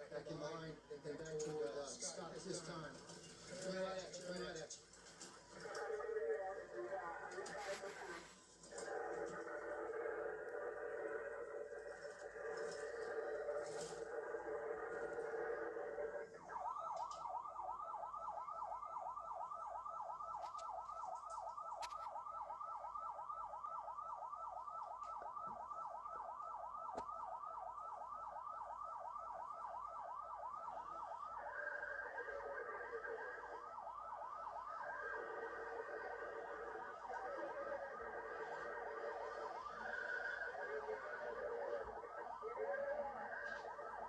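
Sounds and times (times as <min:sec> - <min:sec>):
police siren yelping: 0:00.0 - 0:44.0.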